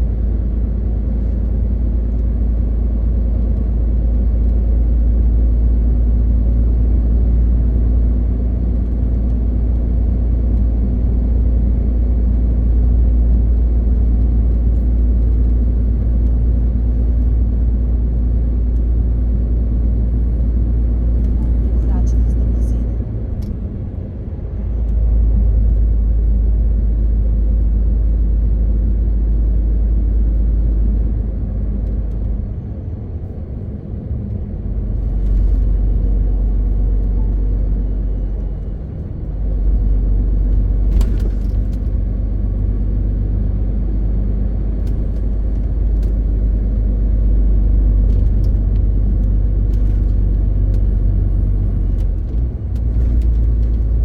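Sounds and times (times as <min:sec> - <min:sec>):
road rumble: 0:00.0 - 0:54.0
truck diesel engine drone: 0:00.0 - 0:54.0.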